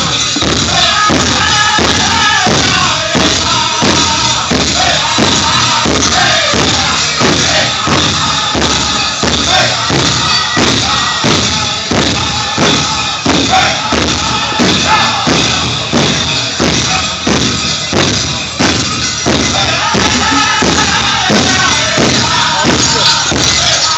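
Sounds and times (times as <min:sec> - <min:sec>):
singers singing: 0:00.0 - 0:17.9, 0:18.6 - 0:23.9
big drum beating: 0:00.0 - 0:23.9.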